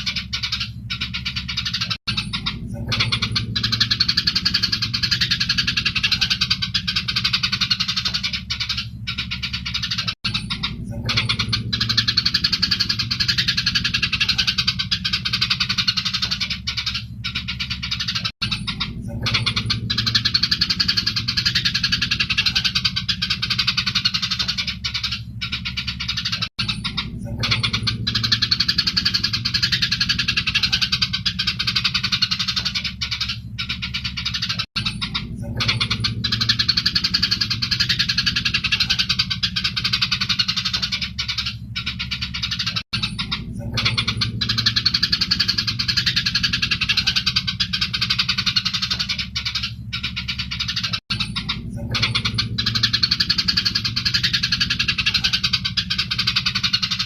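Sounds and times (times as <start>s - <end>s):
sparrows chattering and chirping: 0.0s - 57.0s
steady low hum: 0.0s - 57.0s.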